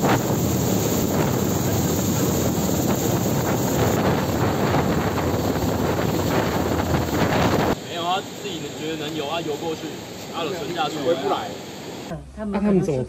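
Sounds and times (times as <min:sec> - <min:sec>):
helicopter rotor and engine: 0:00.0 - 0:12.1
rotor downwash buffeting microphone: 0:00.0 - 0:12.2.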